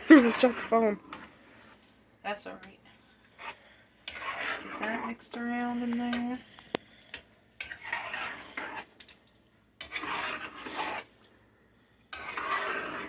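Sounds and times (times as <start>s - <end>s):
spoon stirring soup in a pot: 0.0s - 13.0s.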